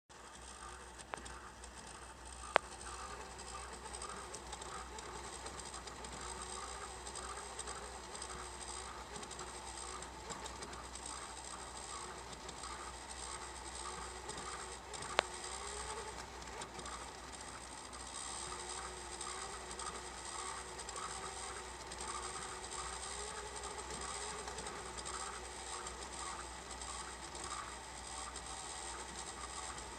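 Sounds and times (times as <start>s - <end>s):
tape rewinding mechanical whirring: 0.1s - 29.9s.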